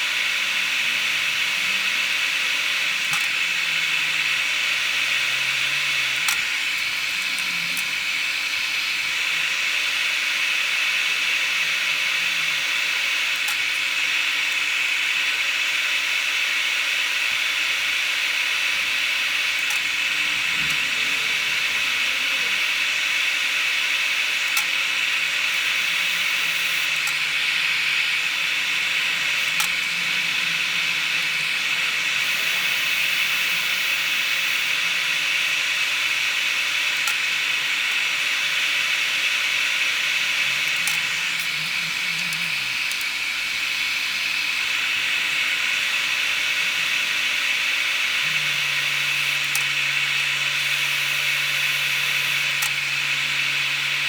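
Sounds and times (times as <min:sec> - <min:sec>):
hot air station hissing: 0:00.0 - 0:13.4, 0:16.9 - 0:54.0.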